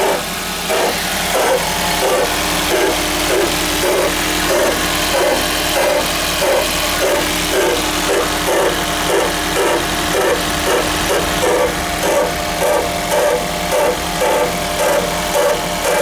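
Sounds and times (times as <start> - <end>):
car humming with rhythmic pulsing: 0.0 - 16.0.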